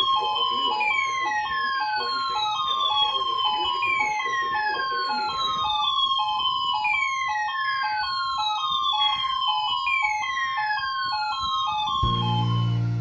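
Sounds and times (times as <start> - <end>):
two-tone warble alarm: 0.0 - 13.0.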